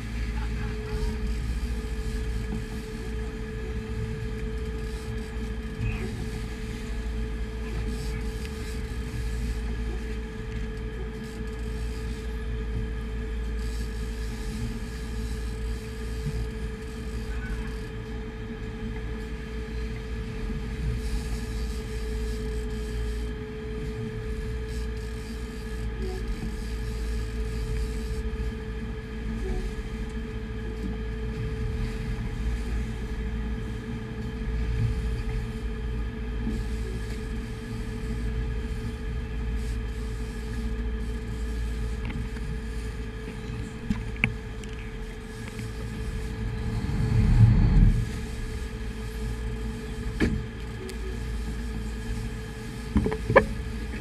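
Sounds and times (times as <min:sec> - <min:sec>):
boat engines droning: 0:00.0 - 0:54.0.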